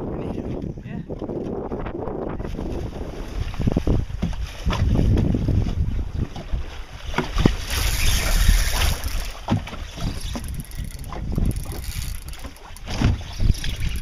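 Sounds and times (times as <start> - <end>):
wind buffeting microphone: 0.0 - 14.0
water sloshing against boat hull: 0.1 - 14.0.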